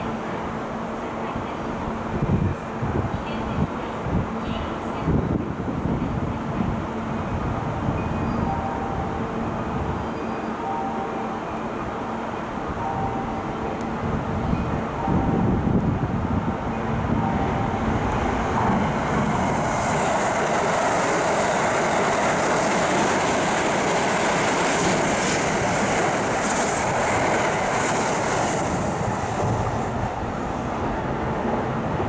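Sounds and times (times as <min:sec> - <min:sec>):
electric trains passing at speed: 0:00.0 - 0:32.0.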